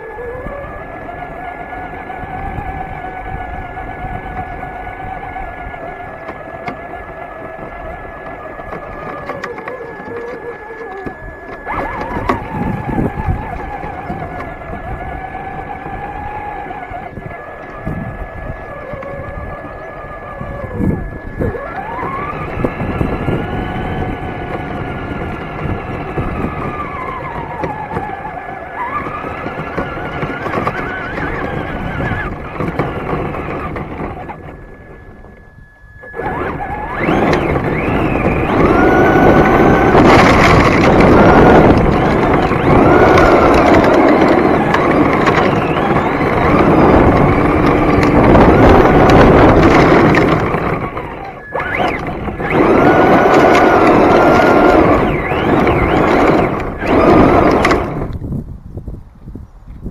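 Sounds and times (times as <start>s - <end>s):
tyres on gravel: 0.0s - 58.5s
electric motor whine: 0.0s - 58.6s
rattling drivetrain and tyre noise: 0.0s - 59.9s.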